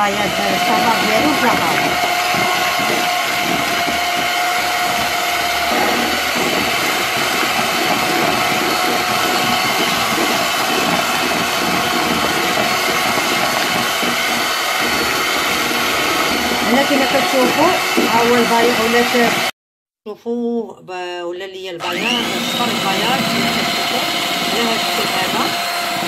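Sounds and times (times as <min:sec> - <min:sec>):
electric hand mixer running: 0:00.0 - 0:19.5, 0:21.8 - 0:26.0.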